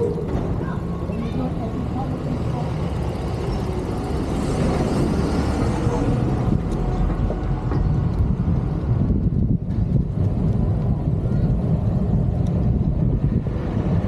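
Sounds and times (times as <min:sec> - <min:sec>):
street traffic noise: 0:00.0 - 0:14.0
wind rumbling on microphone: 0:00.0 - 0:14.0.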